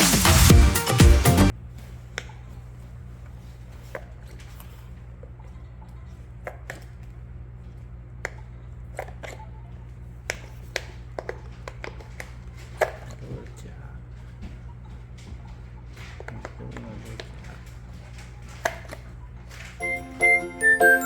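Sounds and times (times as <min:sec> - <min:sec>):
low electrical hum: 0:01.5 - 0:21.0.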